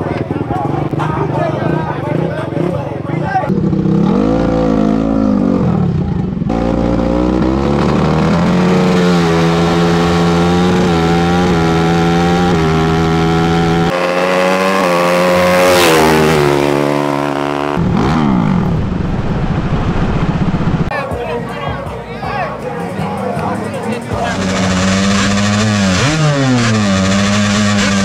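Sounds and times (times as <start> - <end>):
racing engines revving: 0.0 - 20.9, 23.8 - 28.0.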